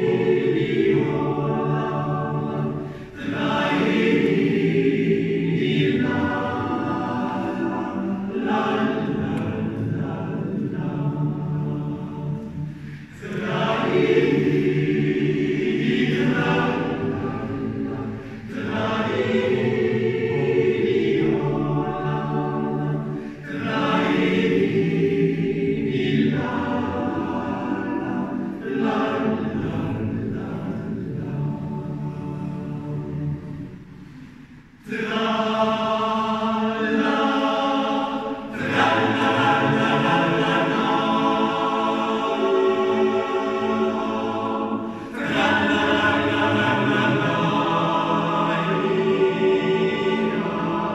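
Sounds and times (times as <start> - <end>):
male choir singing a cappella: 0.0 - 50.9.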